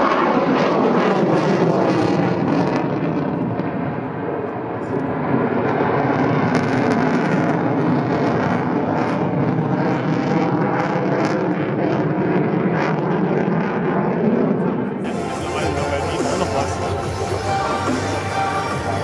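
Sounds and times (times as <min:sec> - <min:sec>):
jet engine roar overhead: 0:00.0 - 0:19.0.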